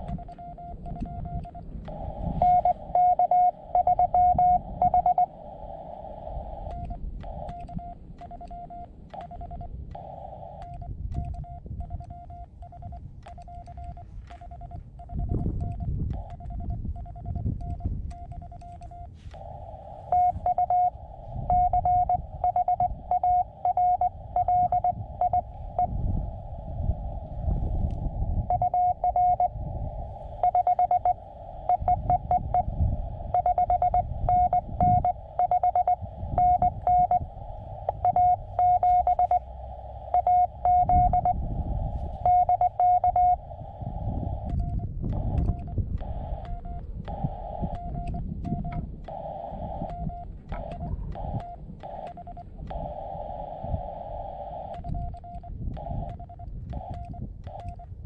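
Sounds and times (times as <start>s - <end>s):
morse code beeps: 0.0s - 5.4s, 6.0s - 26.2s, 26.8s - 58.0s
radio receiver hiss: 0.0s - 58.0s.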